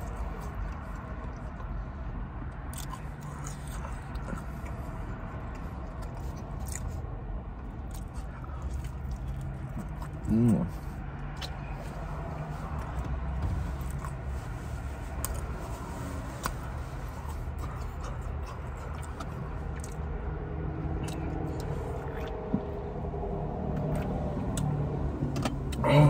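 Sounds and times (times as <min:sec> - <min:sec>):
person chewing: 0:00.0 - 0:24.8
low hum inside car: 0:00.0 - 0:26.0.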